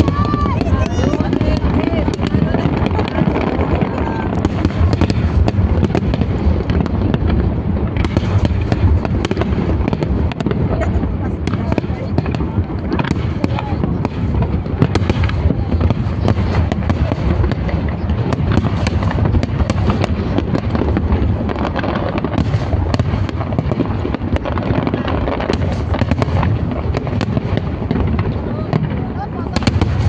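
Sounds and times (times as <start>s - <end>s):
deep rumbling booms: 0.0s - 30.0s
fireworks bangs and crackles: 0.0s - 30.0s.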